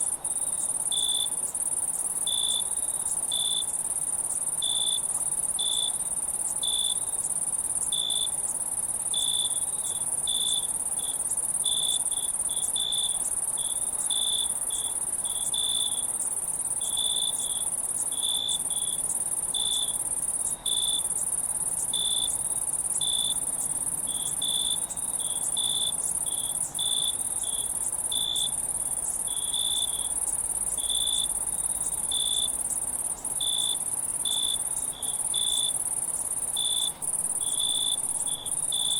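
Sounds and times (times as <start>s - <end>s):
cricket chirps: 0.0s - 38.9s.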